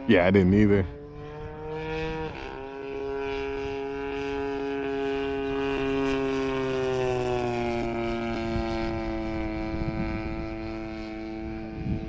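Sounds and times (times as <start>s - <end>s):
model airplane motor droning: 0.0s - 12.0s.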